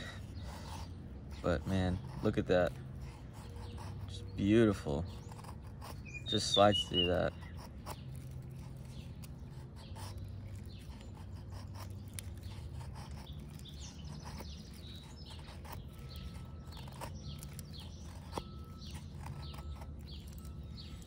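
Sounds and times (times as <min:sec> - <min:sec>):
birds chirping: 0:00.0 - 0:21.0
knife shaving wood: 0:00.0 - 0:21.0.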